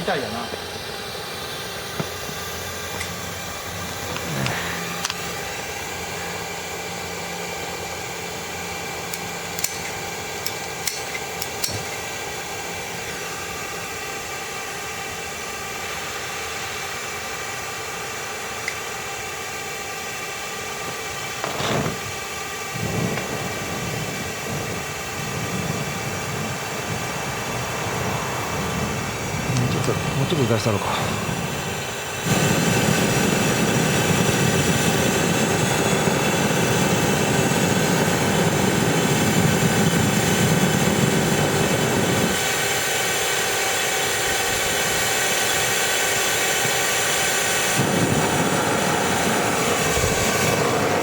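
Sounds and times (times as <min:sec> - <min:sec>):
air rushing with faint whine: 0:00.0 - 0:51.0.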